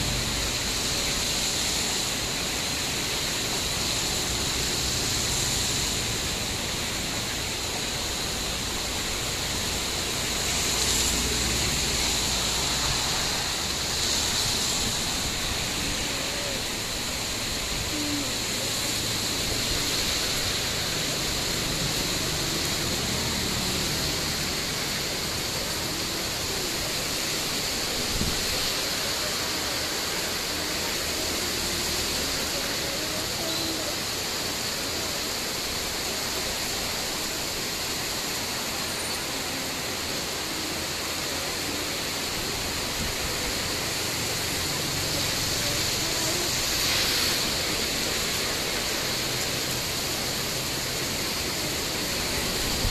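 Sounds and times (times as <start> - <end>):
strong wind: 0.0 - 33.4, 34.0 - 52.9
heavy rain: 0.0 - 52.9.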